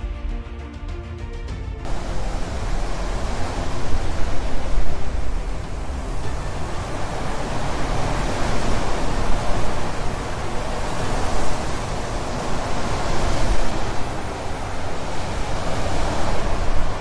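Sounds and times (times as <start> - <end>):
loud rushing noise with deep rumble: 1.8 - 17.0.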